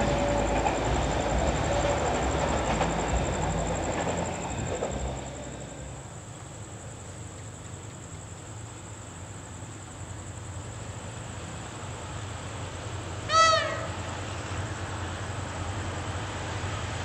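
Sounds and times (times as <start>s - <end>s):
diesel locomotive rumble: 0.0s - 17.0s.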